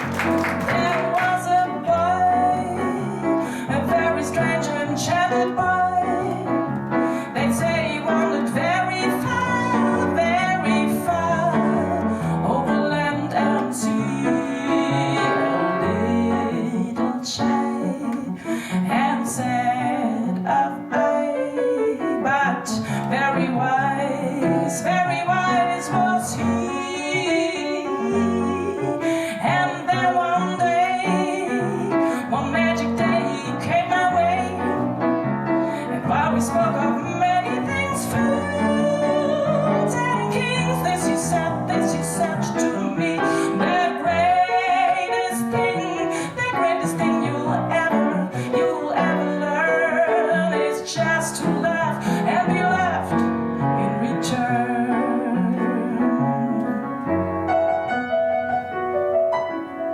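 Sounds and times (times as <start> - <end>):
piano playing: 0.0 - 59.9.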